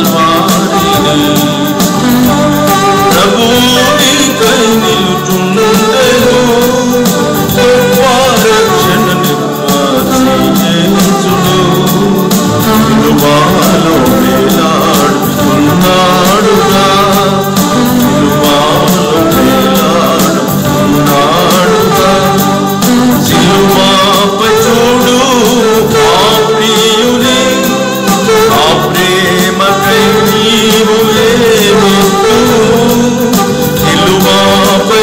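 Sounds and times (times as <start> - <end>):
man singing into a microphone: 0.0 - 35.0.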